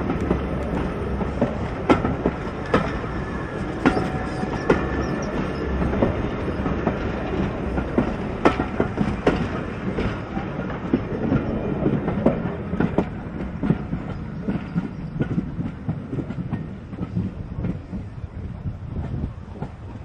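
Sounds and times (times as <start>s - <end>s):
train wheels clacking: 0.0s - 20.0s.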